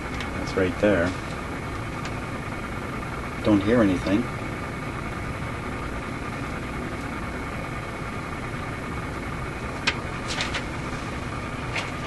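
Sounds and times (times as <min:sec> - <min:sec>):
radio hiss and hum: 0:00.0 - 0:12.0.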